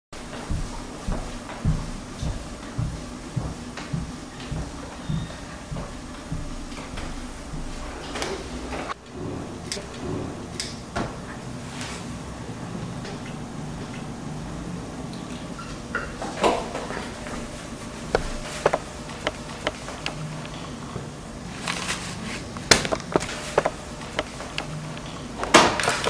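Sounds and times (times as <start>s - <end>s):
low steady hum: 0.2s - 25.5s.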